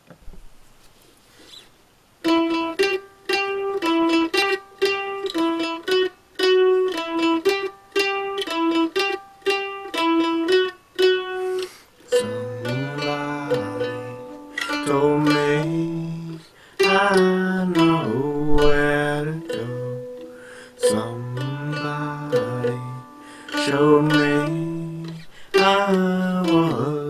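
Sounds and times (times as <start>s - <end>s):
mandolin melody: 2.2s - 27.0s.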